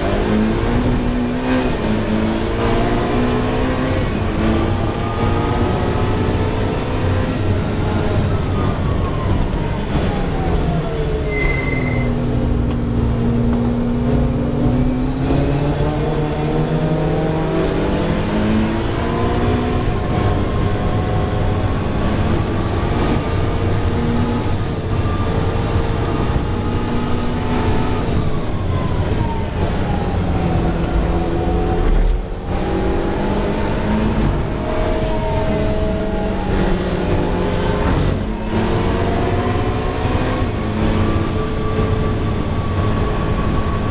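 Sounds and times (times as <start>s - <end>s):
race car engine at speed: 0.0s - 43.9s.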